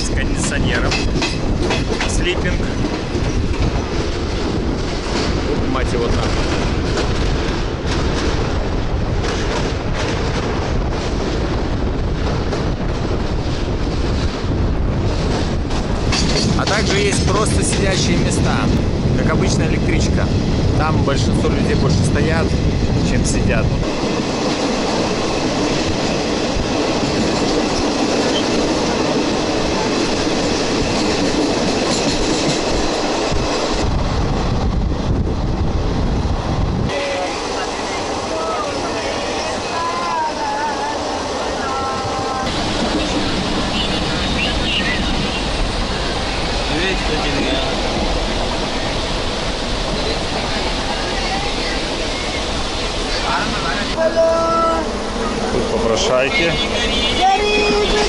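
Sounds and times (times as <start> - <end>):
train rumbling over bridge: 0.0 - 58.0
wind buffeting microphone: 0.0 - 58.0.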